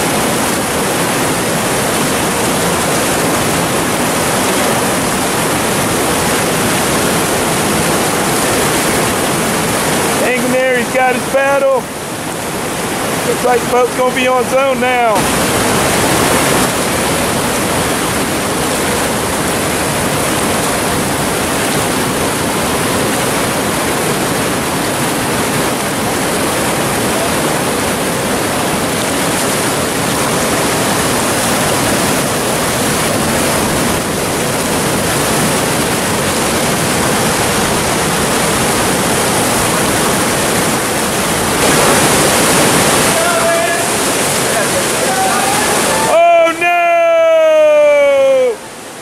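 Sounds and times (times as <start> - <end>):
whitewater rapids rushing: 0.0 - 49.0.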